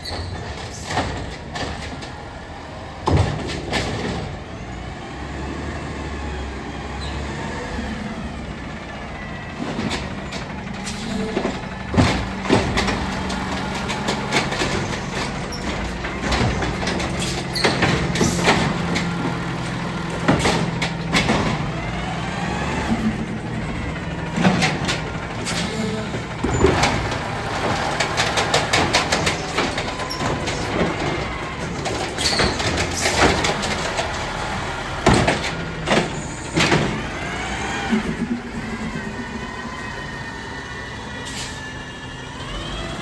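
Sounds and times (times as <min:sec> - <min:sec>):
diesel engine under hydraulic load: 0:00.0 - 0:43.0.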